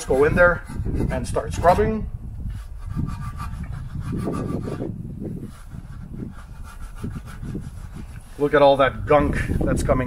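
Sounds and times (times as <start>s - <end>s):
brush scrubbing a wheel: 0.0s - 1.8s, 2.5s - 9.0s.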